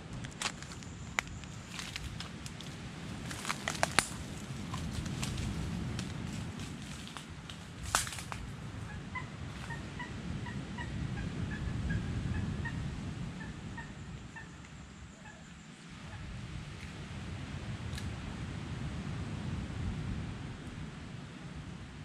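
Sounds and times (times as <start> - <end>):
low wind-like rumble: 0.0 - 22.0.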